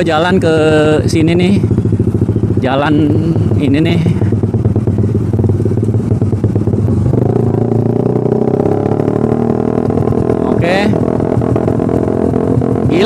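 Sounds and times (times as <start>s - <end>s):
motorcycle engine stuttering: 0.0s - 13.0s.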